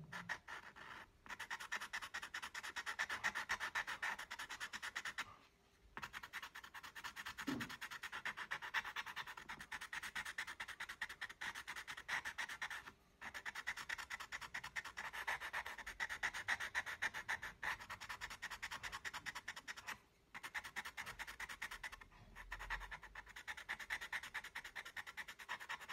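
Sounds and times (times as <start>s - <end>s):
pencil scratching on paper: 0.0s - 25.9s.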